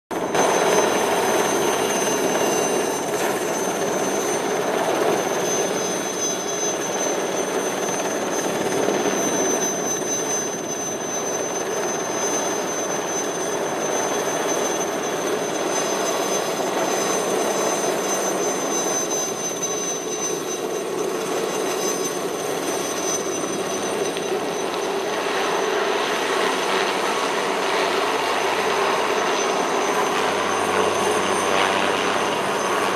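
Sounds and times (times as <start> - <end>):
helicopter turbine and rotor noise: 0.1 - 32.9
high steady whine: 0.1 - 32.9.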